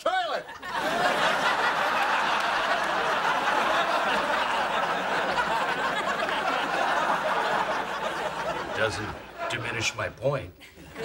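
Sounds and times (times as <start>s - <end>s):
audience laughing: 0.5s - 11.0s.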